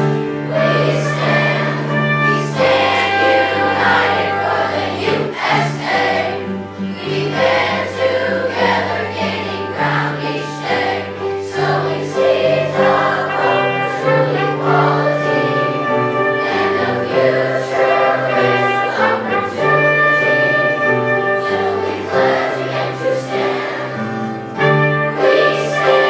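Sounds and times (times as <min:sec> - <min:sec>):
children's choir singing: 0:00.0 - 0:26.0
musical accompaniment low notes: 0:00.0 - 0:26.0.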